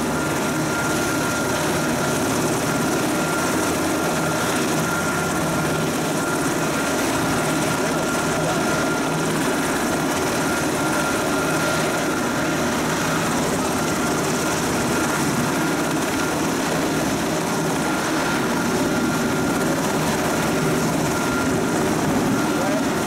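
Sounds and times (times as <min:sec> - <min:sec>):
helicopter rotor and engine drone: 0:00.0 - 0:23.0.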